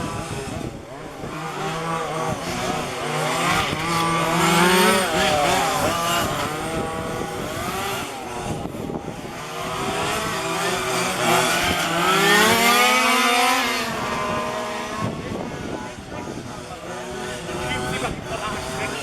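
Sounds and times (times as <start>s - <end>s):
rc car engines buzzing: 0.0s - 19.0s
rc car passing close: 0.0s - 19.0s.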